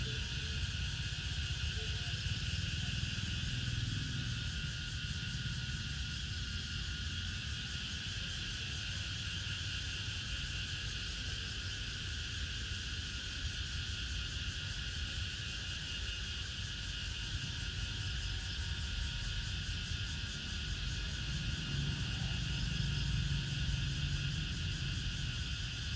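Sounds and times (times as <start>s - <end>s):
chorus of insects: 0.0s - 25.9s.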